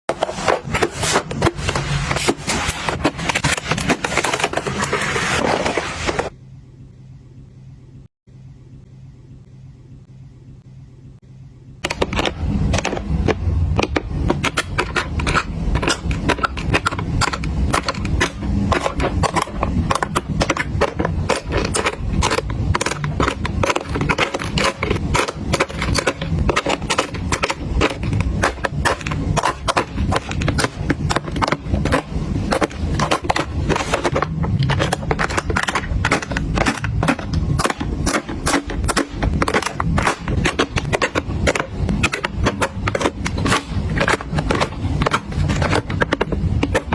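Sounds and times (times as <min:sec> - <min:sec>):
makeup items clattering: 0:00.1 - 0:06.3, 0:11.8 - 0:46.9.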